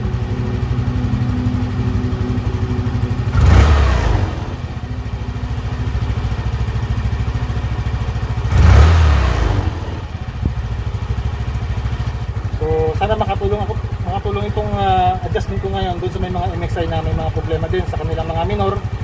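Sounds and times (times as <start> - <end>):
scooter engine idling and revving: 0.0 - 19.0.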